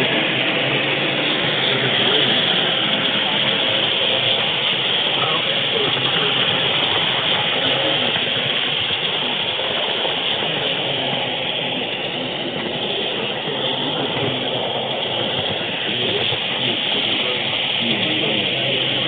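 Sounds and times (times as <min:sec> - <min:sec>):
model train wheels on track: 0:00.0 - 0:19.0.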